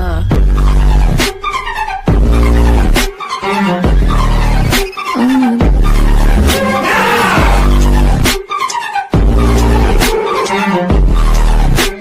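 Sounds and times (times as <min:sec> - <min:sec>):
dubstep music with heavy bass: 0:00.1 - 0:12.0.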